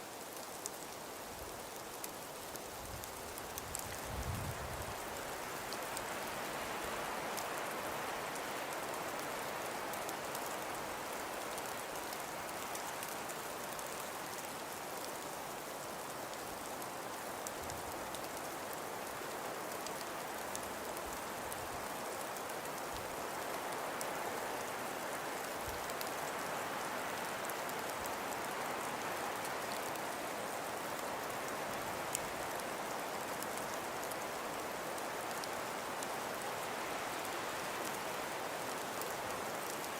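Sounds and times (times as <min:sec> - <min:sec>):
wind-driven snow hiss: 0:00.0 - 0:39.9.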